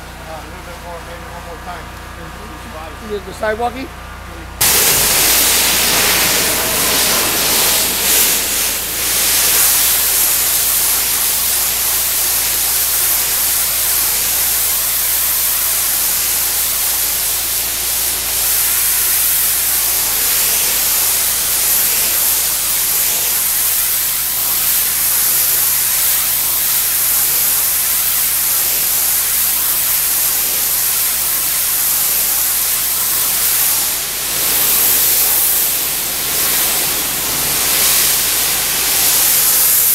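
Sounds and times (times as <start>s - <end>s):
pressure washer spraying concrete: 4.6s - 39.9s.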